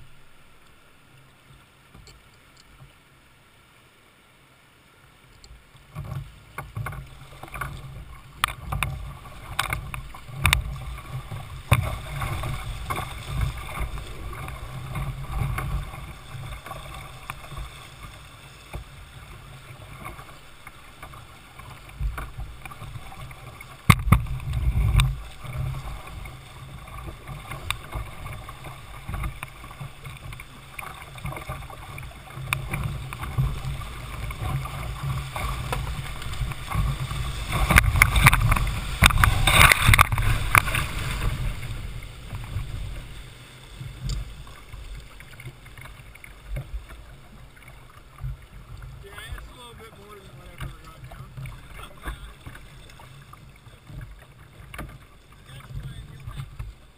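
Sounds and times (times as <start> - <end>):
low rumble of water: 0.0 - 56.9
whitewater rushing and splashing: 5.6 - 56.9.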